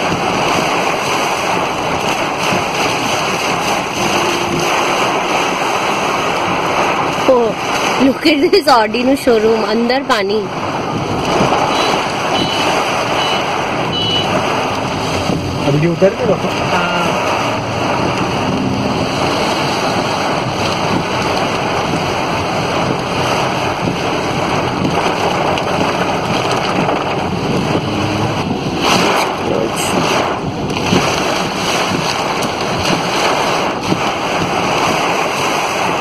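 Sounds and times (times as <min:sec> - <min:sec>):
floodwater rushing: 0:00.0 - 0:36.0
torrential rain: 0:00.0 - 0:36.0
wind buffeting microphone: 0:00.0 - 0:36.0.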